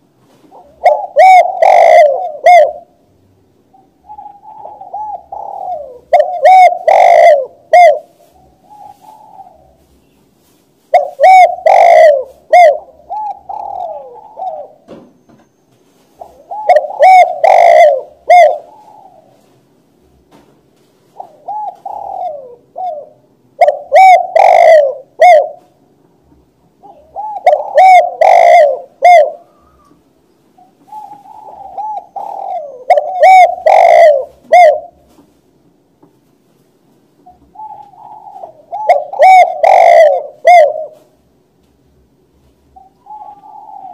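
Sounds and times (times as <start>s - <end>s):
dove cooing: 0.0s - 3.0s, 3.7s - 14.9s, 16.0s - 19.6s, 21.1s - 25.8s, 26.8s - 35.4s, 37.2s - 41.2s, 42.7s - 43.9s.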